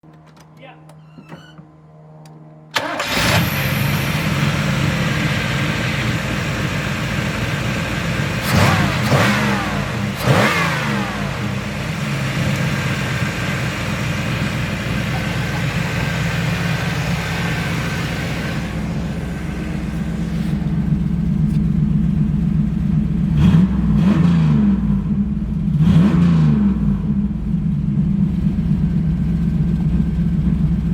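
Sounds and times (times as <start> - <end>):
engine throttle blips: 1.3 - 30.9
car engine idling: 2.8 - 26.1, 26.7 - 30.9.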